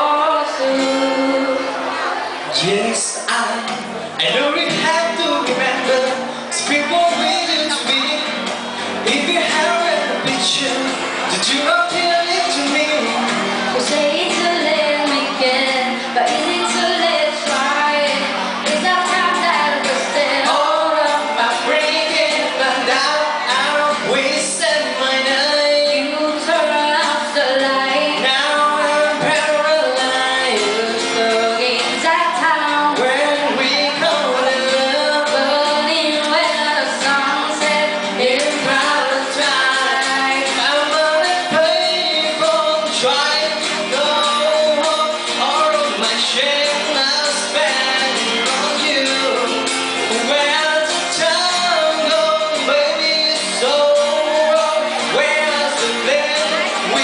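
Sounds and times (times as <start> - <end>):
live band playing pop song: 0.0 - 57.0
person singing: 0.0 - 57.0.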